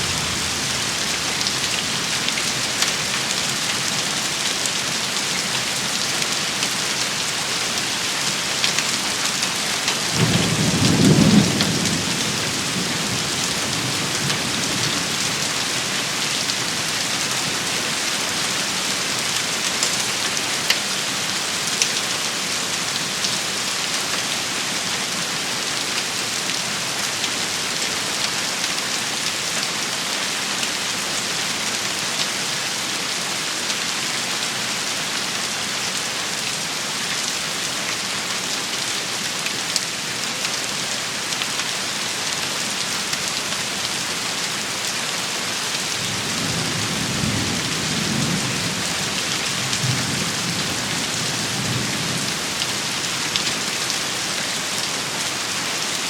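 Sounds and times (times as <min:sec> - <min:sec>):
rain hissing on hard surfaces: 0:00.0 - 0:56.0.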